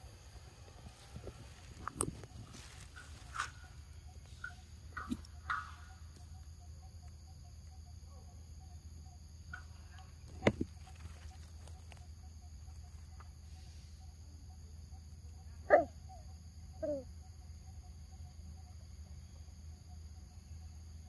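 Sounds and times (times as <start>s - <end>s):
high insect chorus: 0.0s - 21.0s.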